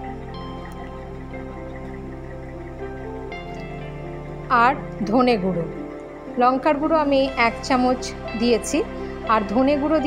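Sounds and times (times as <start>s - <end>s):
soft sustained background music: 0.0s - 10.0s.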